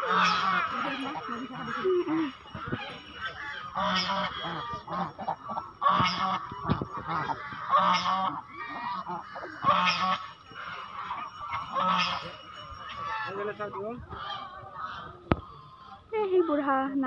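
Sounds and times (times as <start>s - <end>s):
geese honking: 0.0s - 16.9s
soft goose chatter: 0.0s - 16.9s.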